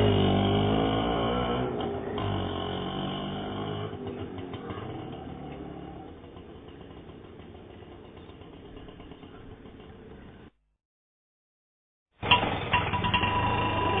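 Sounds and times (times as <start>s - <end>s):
auto rickshaw engine running: 0.0s - 10.6s, 12.2s - 14.0s.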